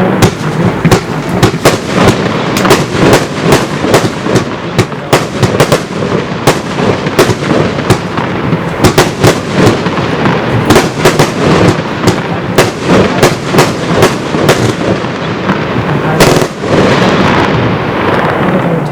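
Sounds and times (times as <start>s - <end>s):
fireworks launching and bursting: 0.0s - 18.9s.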